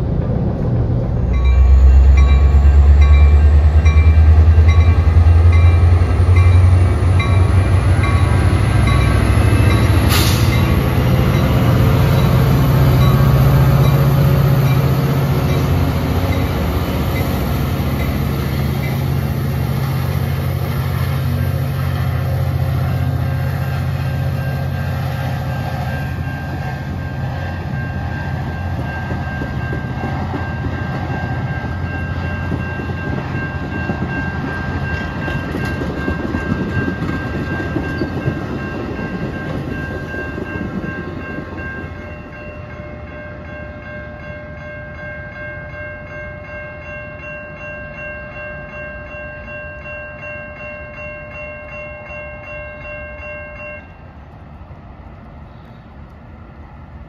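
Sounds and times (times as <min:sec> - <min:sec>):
diesel locomotive engine: 0:00.0 - 0:57.0
train cars rolling on rails: 0:00.0 - 0:57.0.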